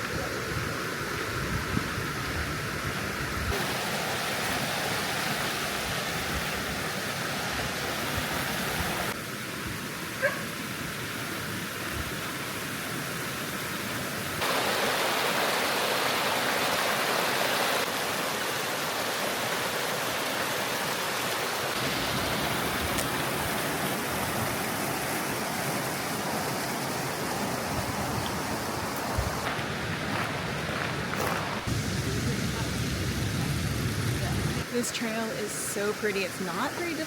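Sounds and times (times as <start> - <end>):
waterfall rushing: 3.5 - 37.0.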